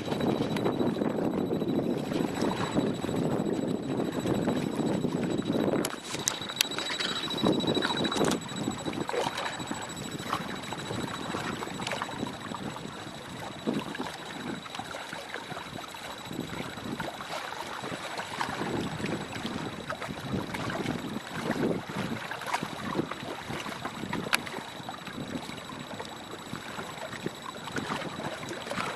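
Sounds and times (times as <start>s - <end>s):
wind buffeting microphone: 0.0s - 14.9s, 17.8s - 28.9s
choppy water splashing: 0.0s - 28.9s
faint high-pitched tone: 0.0s - 28.9s.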